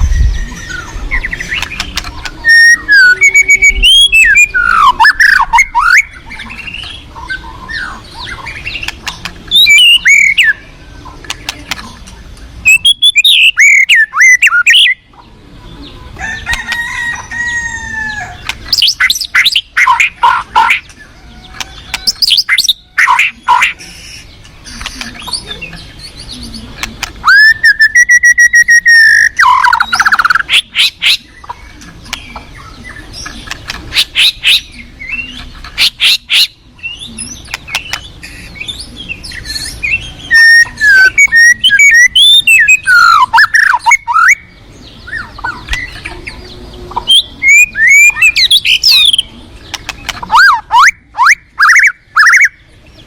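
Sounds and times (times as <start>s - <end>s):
bird singing whistles and chatters: 0.0s - 11.8s, 12.6s - 15.1s, 18.3s - 53.0s.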